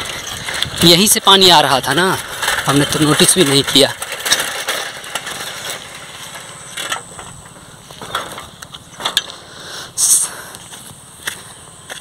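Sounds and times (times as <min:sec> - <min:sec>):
bicycle crunching over grass and stones: 0:00.0 - 0:12.0.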